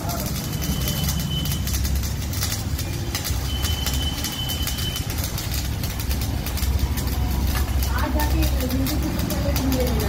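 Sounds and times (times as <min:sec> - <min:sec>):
welding arc crackling: 0:00.0 - 0:10.0.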